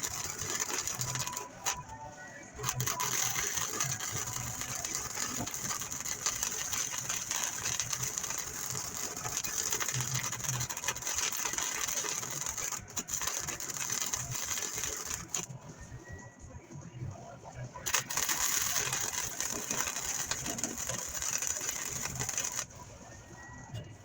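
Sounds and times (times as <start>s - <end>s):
metal shop crackling and rattling: 0.0s - 1.9s, 2.6s - 15.5s, 17.9s - 22.8s.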